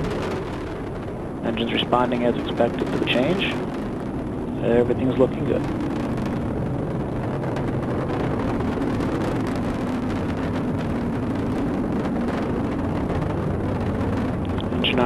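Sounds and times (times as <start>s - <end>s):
rocket engine roar: 0.0s - 15.0s.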